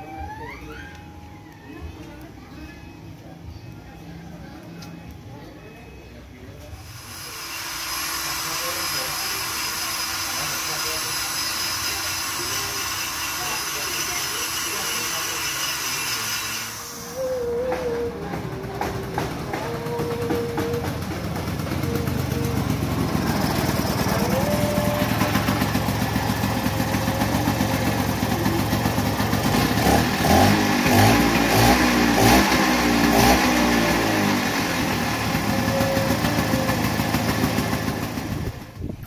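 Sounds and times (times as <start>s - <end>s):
scooter engine revving: 6.8s - 38.8s.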